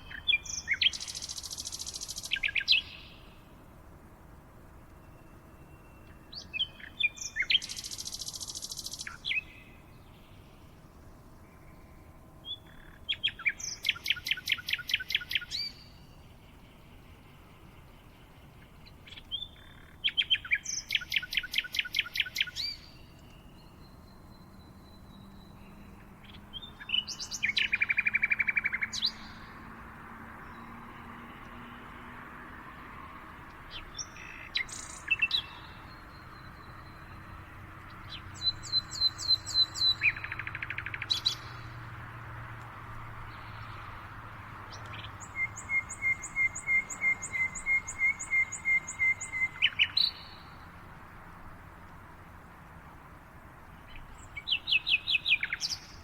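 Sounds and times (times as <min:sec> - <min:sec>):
faint background hiss: 0:00.0 - 0:56.0
songbirds singing with trills: 0:00.0 - 0:56.0.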